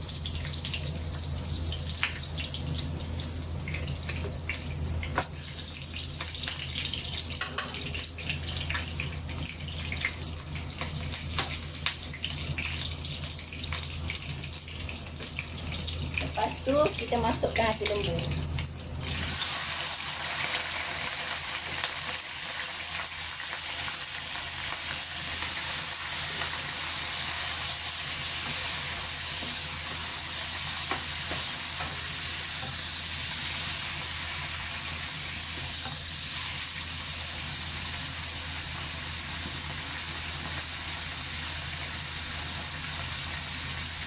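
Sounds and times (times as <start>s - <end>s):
liver sizzling in hot oil: 0.0s - 44.0s.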